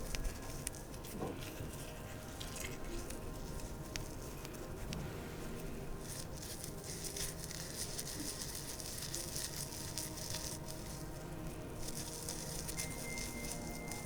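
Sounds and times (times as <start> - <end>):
oily hands rubbing: 0.0 - 14.0.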